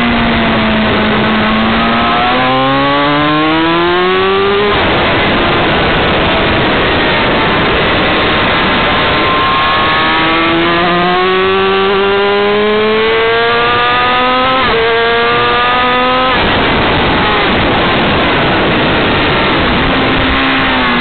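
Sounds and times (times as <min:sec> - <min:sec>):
heavy wind rush: 0:00.0 - 0:21.0
motorcycle engine accelerating: 0:00.0 - 0:21.0.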